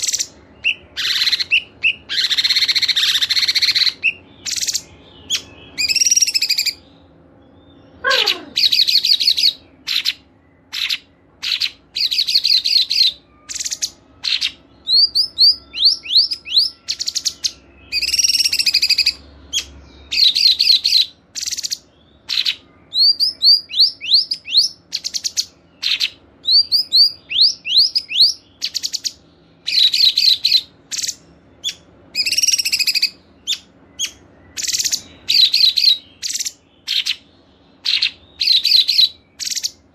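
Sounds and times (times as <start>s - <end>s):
songbirds trilling and chipping: 0.0s - 39.9s.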